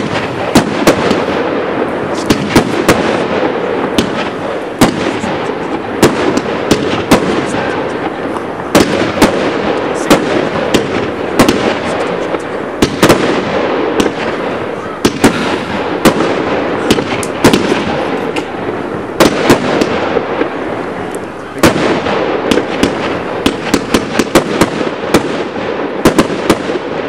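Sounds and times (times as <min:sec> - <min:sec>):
fireworks reports: 0:00.0 - 0:27.0.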